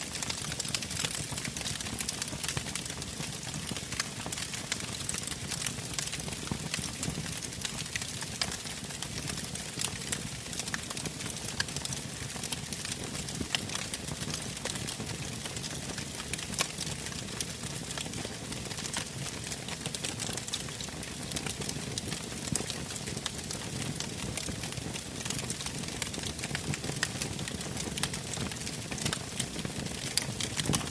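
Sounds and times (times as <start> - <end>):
campfire wood crackling: 0.0 - 30.9.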